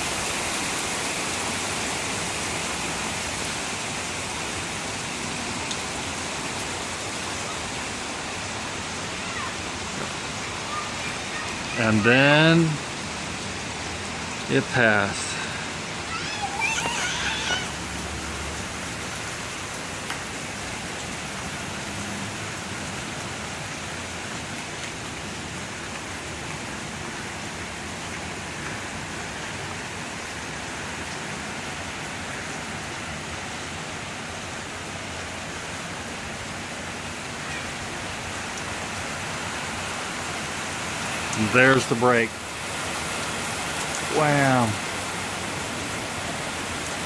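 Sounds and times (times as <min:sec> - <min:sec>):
heavy rain hissing: 0:00.0 - 0:47.0.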